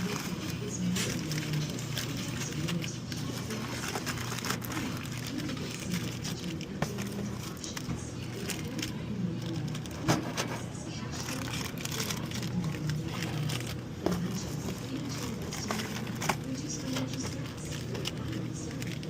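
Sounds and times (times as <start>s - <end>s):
snack packets clicking and tapping: 0.0s - 10.0s, 11.2s - 19.0s
vending machine hum: 0.0s - 19.0s.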